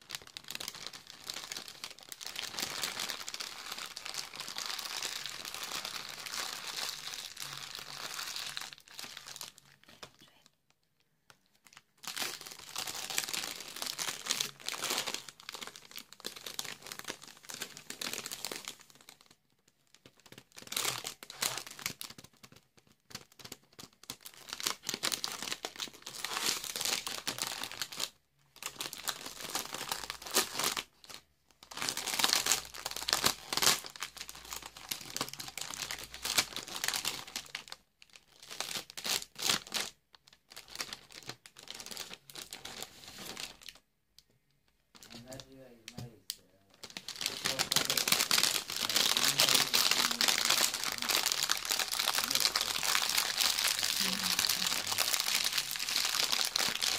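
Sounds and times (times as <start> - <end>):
plastic bag crinkling: 0.0 - 10.1, 11.6 - 43.8, 44.9 - 46.0, 46.7 - 56.9.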